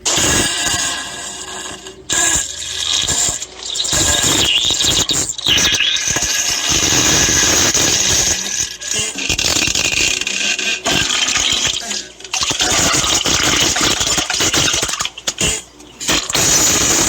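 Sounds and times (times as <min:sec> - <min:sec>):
rasping fart sound effects: 0:00.0 - 0:17.0.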